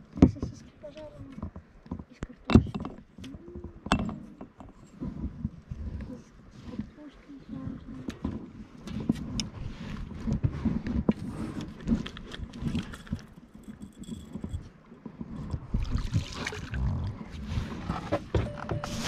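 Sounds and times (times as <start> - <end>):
oars knocking and splashing: 0.0 - 6.0, 7.9 - 19.0.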